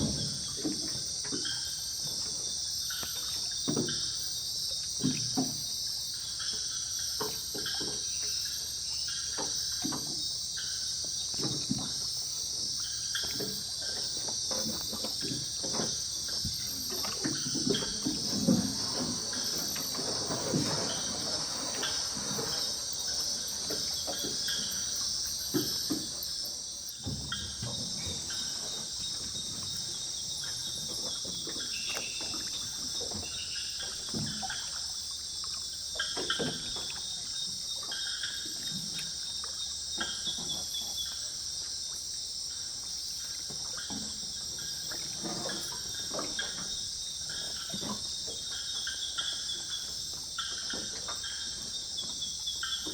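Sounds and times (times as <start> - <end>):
night insects chirping: 0.0 - 52.9.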